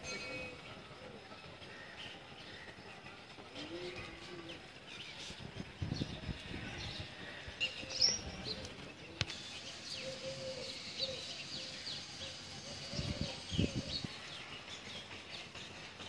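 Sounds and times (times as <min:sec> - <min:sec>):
small birds chirping: 0:01.8 - 0:16.0.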